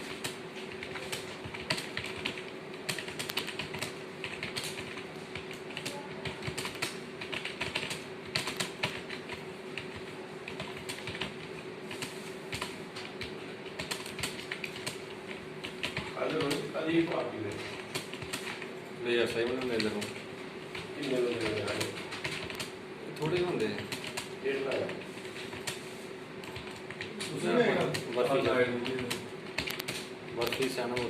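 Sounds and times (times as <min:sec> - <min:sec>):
steady hum: 0:00.0 - 0:31.0
keyboard typing clicks: 0:00.1 - 0:16.7, 0:17.5 - 0:25.8, 0:26.4 - 0:31.0.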